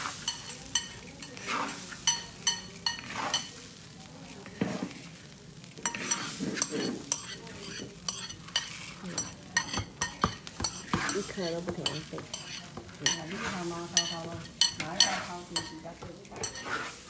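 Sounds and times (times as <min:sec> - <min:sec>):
frying sizzle: 0:00.0 - 0:17.0
metal spatula clanking on pan: 0:00.2 - 0:03.5, 0:05.8 - 0:17.0.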